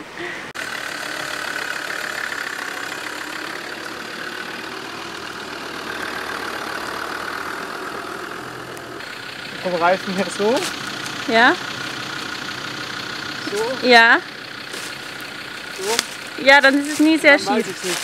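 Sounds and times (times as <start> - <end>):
diesel engine running at low revs: 0.0 - 18.0.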